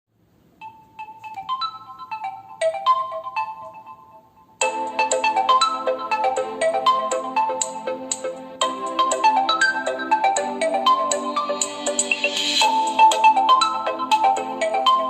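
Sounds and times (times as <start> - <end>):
smartphone ringtone melody: 0.6 - 15.0.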